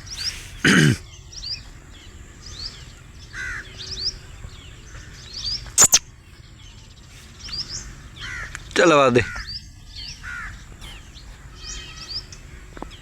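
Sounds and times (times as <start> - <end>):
birds chirping: 0.0 - 13.0
loud harsh bird notes: 0.0 - 13.0.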